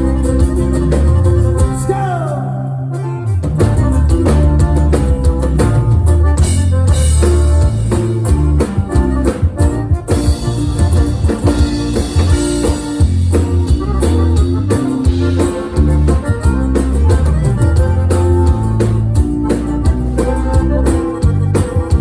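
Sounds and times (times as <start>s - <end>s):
drum kit: 0.0s - 2.4s, 3.0s - 22.0s
guitar playing: 0.0s - 22.0s
steady bass line: 0.0s - 22.0s.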